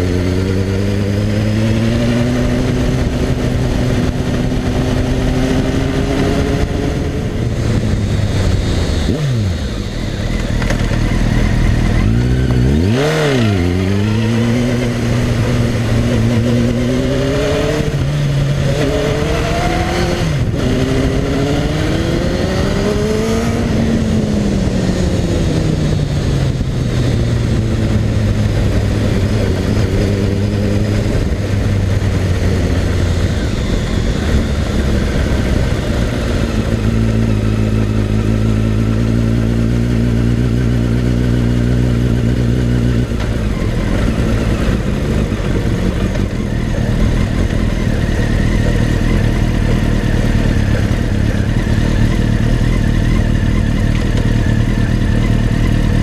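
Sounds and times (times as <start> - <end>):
motorcycle engine revving: 0.0 - 56.0
wind and road rush: 0.0 - 56.0.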